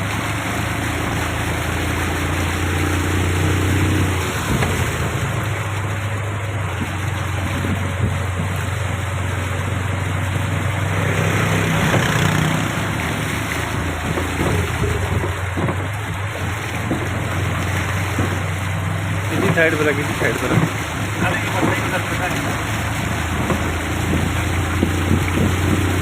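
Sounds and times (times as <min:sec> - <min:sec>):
car engine running: 0:00.0 - 0:26.0
water rushing: 0:00.0 - 0:26.0.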